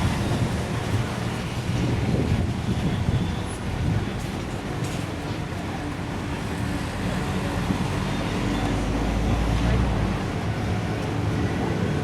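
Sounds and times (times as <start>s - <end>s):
faint road traffic: 0.0s - 12.0s.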